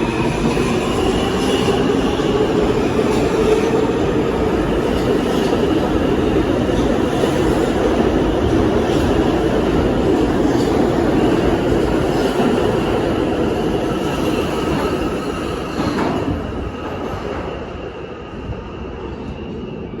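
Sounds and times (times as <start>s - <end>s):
subway train rumble and whine: 0.0s - 20.0s.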